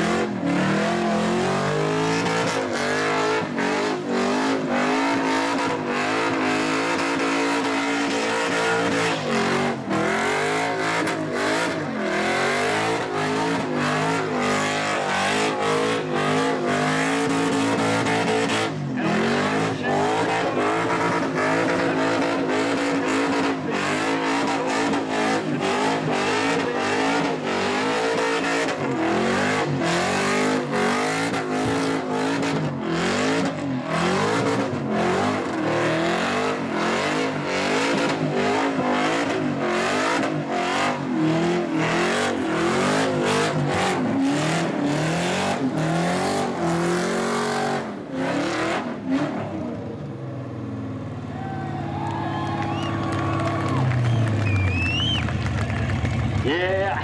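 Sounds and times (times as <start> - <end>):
car engine revving high: 0.0 - 50.5.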